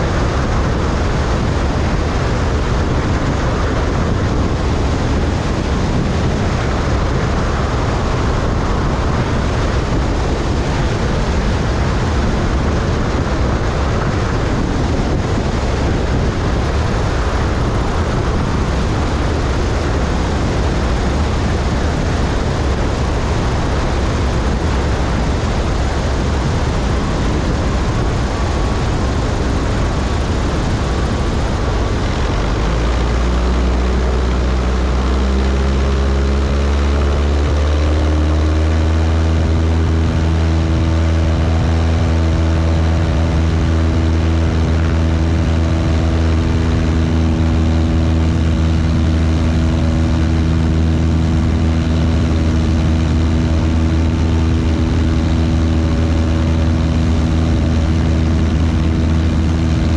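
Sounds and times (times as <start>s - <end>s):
aircraft engine drone: 0.0s - 59.9s
airflow rush: 0.0s - 59.9s.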